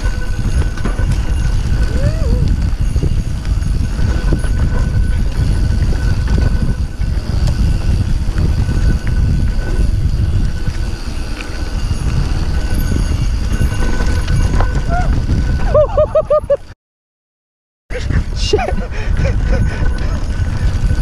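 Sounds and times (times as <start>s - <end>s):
bike and tyres rattling on dirt: 0.0s - 16.7s, 17.9s - 21.0s
wind rumble on microphone: 0.0s - 16.8s, 17.9s - 21.0s.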